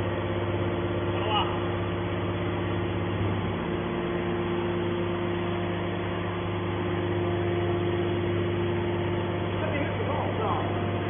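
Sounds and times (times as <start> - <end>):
hydraulic power unit humming: 0.0 - 11.0.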